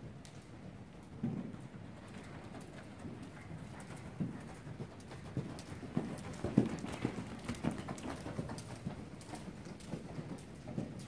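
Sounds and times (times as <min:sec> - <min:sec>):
hoofbeats on soft dirt: 0:00.0 - 0:11.0.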